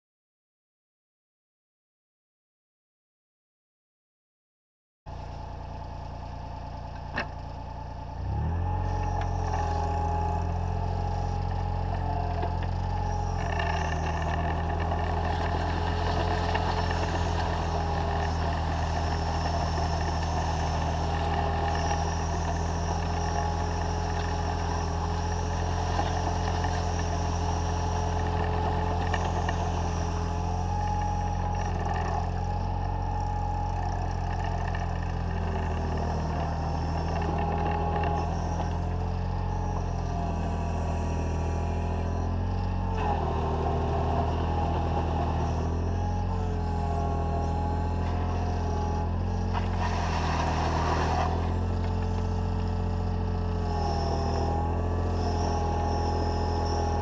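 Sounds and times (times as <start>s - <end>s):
whine: 5.1s - 57.0s
digger diesel engine revving: 6.1s - 57.0s.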